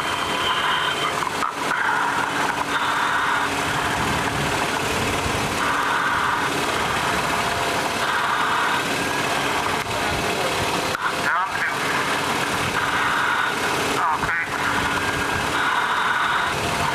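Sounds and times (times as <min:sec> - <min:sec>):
machinery running: 0:00.0 - 0:16.9
loud hiss: 0:00.1 - 0:10.2, 0:11.1 - 0:16.9.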